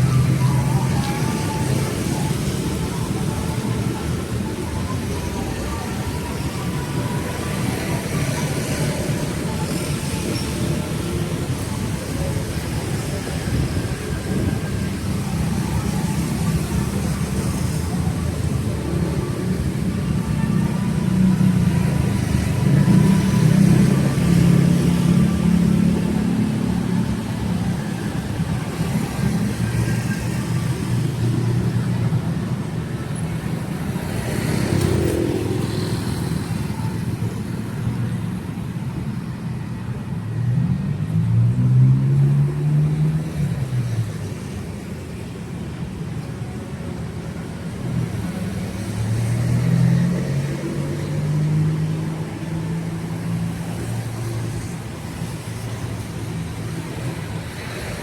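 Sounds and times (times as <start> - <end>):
car and motorbike engines: 0.0 - 58.0.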